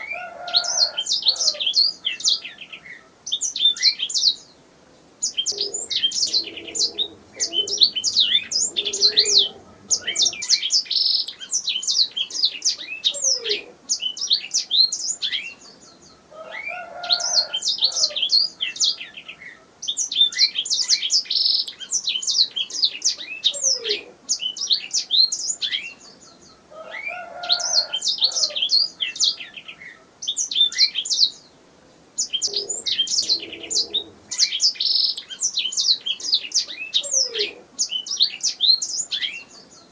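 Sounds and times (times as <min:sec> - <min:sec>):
canary singing: 0:00.0 - 0:04.6, 0:05.2 - 0:31.5, 0:32.2 - 0:39.9.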